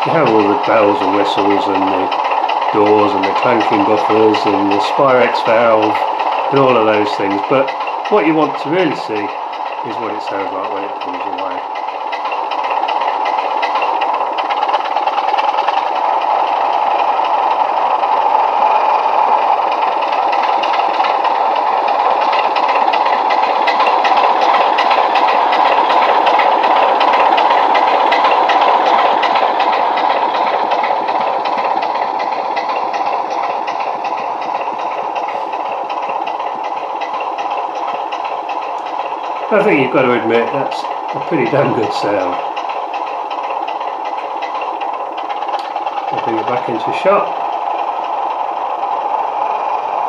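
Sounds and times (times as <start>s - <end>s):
diesel engine sound from small speaker: 0.0s - 50.0s.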